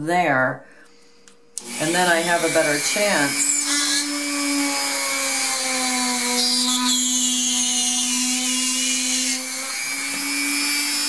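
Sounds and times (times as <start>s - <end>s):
drill bit cutting clay: 1.6s - 11.0s
rotary tool motor whine: 1.6s - 11.0s.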